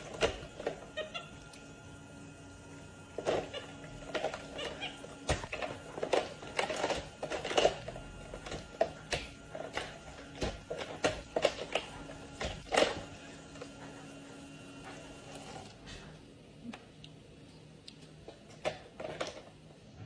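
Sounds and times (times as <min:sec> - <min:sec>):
small water pump humming: 0:00.0 - 0:16.7.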